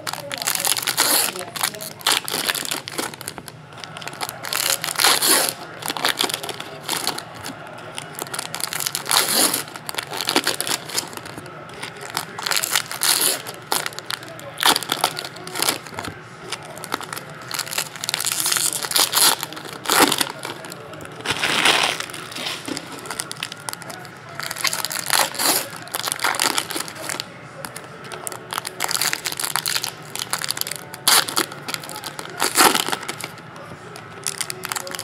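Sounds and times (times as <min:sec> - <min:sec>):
foil wrappers crinkling and tearing: 0:00.0 - 0:35.0.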